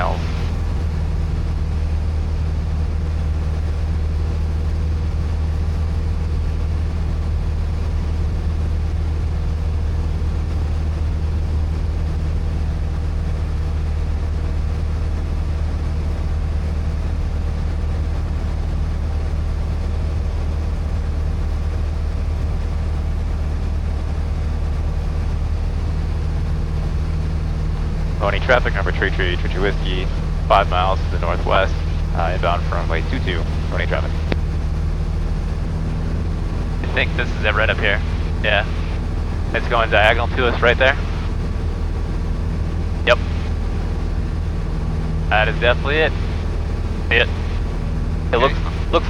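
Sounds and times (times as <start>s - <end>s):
propeller airplane engine droning: 0.0s - 49.0s.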